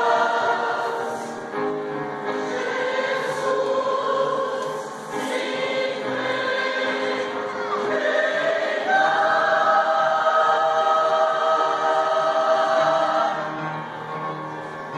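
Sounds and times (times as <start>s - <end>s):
church choir singing: 0.0s - 14.9s.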